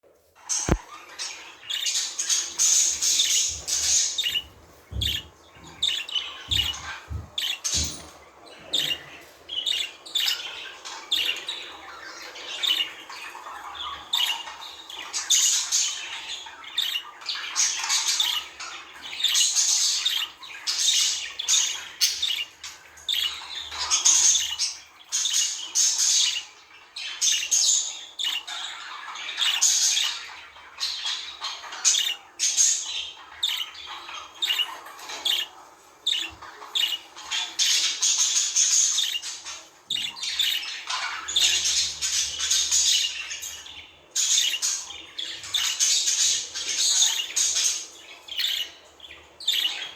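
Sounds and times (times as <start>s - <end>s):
budgerigars chirping and squawking: 0.3s - 49.9s.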